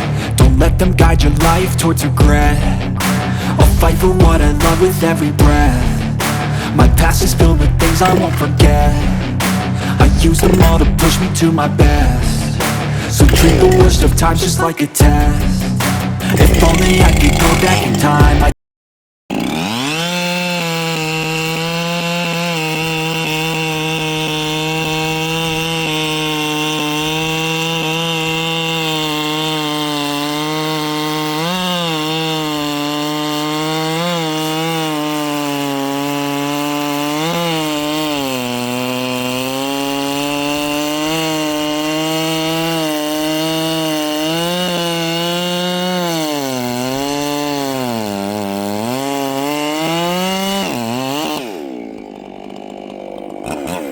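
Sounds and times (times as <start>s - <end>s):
chainsaw cutting wood: 0.0s - 18.5s, 19.3s - 53.9s.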